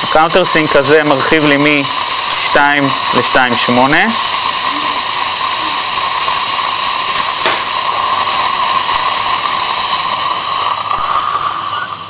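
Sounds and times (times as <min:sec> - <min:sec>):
surgical drill whine: 0:00.0 - 0:12.0.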